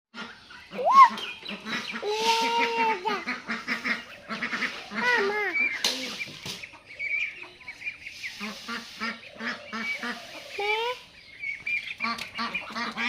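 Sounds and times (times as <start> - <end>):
geese honking: 0.2 - 13.0.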